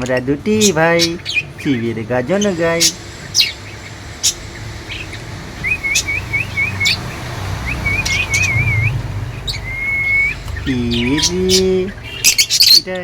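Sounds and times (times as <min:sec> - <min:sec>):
lovebirds chirping: 0:00.0 - 0:13.0
quick wavering twittering: 0:00.6 - 0:12.9.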